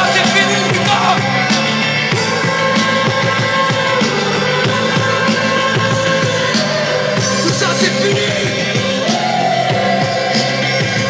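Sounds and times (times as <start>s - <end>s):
live rock band: 0.0s - 11.0s
steady drum beat: 0.0s - 11.0s.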